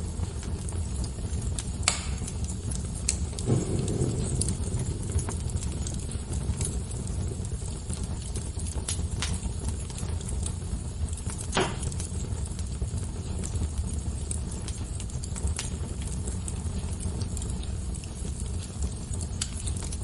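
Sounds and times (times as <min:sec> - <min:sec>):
fire crackling and popping: 0:00.0 - 0:20.0
wood fire burning: 0:00.0 - 0:20.0.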